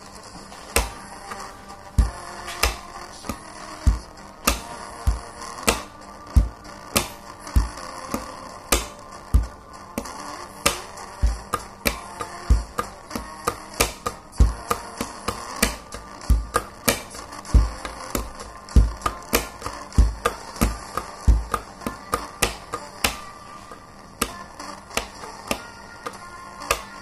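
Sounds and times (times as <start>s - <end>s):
pens drumming on a wooden table: 0.7s - 27.0s.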